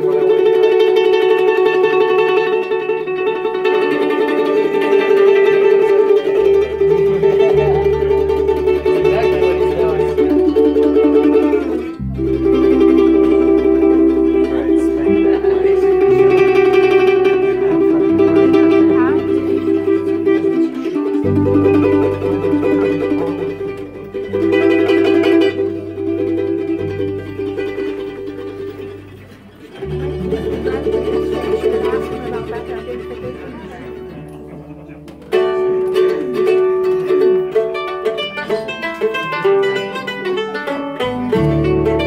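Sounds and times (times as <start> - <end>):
acoustic guitar: 0.0 - 42.0
electric bass notes: 0.0 - 42.0
mandolin picking: 0.0 - 42.0.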